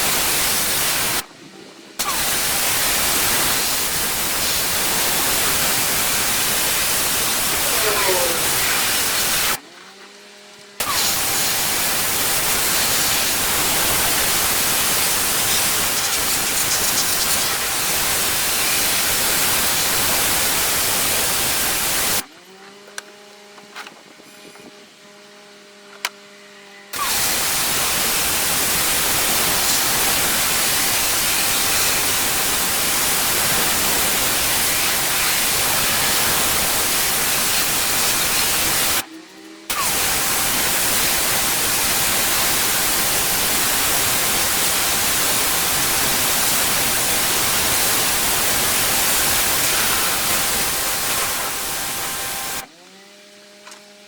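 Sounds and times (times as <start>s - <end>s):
pressure washer water jet hissing: 0.0s - 1.3s, 2.0s - 9.6s, 10.8s - 22.2s, 27.0s - 39.1s, 39.7s - 52.7s.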